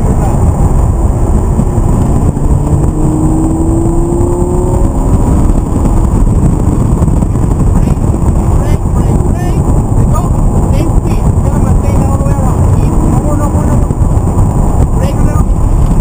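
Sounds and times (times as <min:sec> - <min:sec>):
car engine running hard: 0:00.0 - 0:16.0
heavy road noise: 0:00.0 - 0:16.0.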